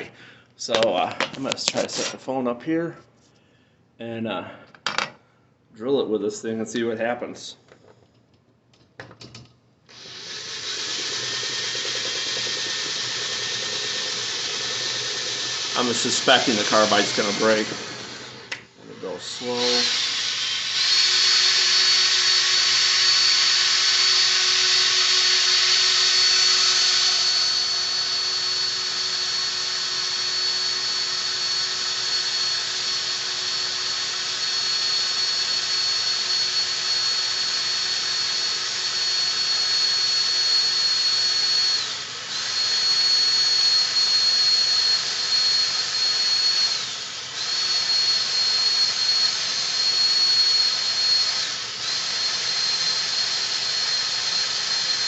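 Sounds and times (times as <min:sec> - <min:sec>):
electric drill grinding into steel: 0:09.9 - 0:55.0.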